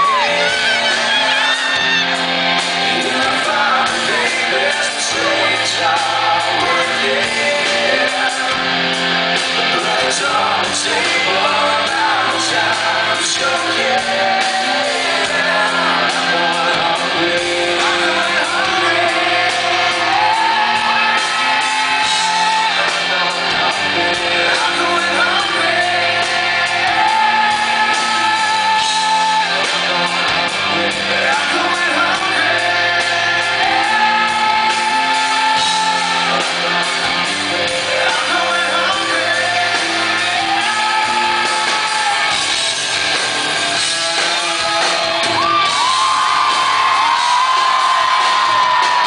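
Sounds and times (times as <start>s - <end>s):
crowd shouting: 0.0s - 9.0s, 11.0s - 30.5s, 31.1s - 43.1s, 43.9s - 49.0s
live rock band playing: 0.0s - 49.0s.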